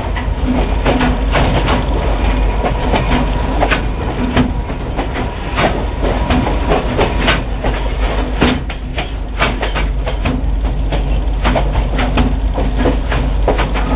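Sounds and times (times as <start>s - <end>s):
clanks and knocks from wheels: 0.0s - 13.9s
train car rumbling on rails: 0.0s - 13.9s.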